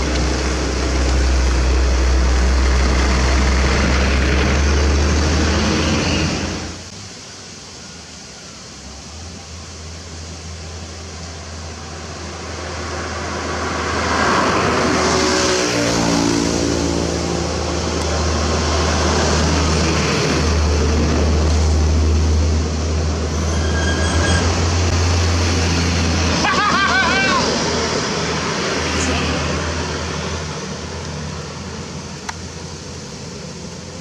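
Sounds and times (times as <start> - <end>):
diesel truck passing: 0.0 - 6.9, 9.2 - 34.0
heavy traffic engine drone: 0.0 - 34.0.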